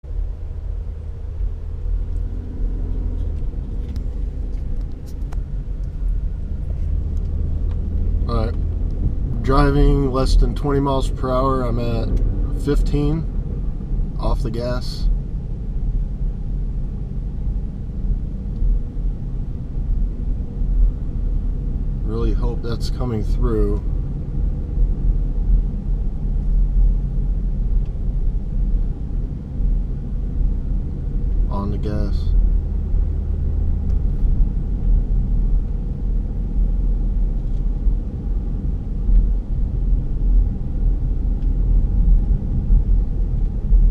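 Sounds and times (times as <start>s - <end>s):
low road rumble: 0.0s - 43.9s.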